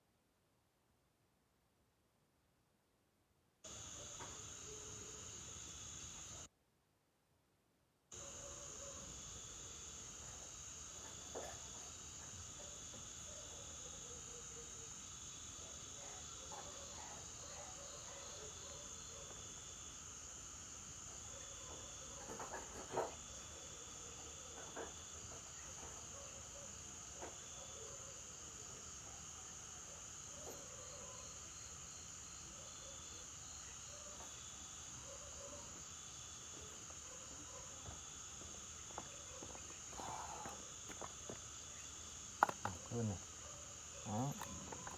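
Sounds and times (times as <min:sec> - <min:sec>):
insects trilling high drone: 0:03.7 - 0:06.5, 0:08.2 - 0:44.9
lower insect trill: 0:03.7 - 0:06.5, 0:08.2 - 0:44.9.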